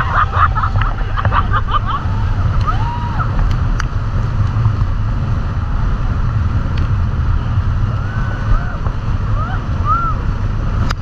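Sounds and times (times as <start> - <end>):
rushing water and spray: 0.0 - 11.0
wind buffeting microphone: 0.0 - 11.0.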